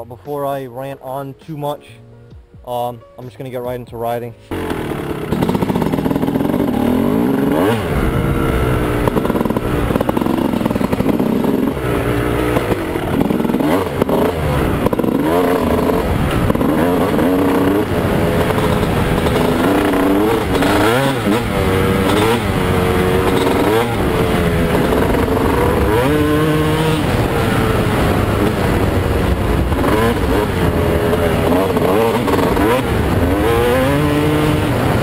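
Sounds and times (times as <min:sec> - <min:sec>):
two-stroke motorcycle engine revving: 0:04.5 - 0:35.0.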